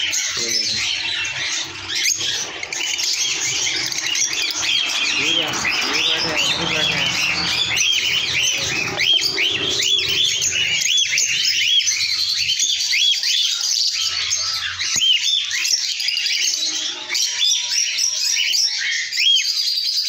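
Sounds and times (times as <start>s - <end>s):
lovebirds chirping: 0.0s - 19.7s.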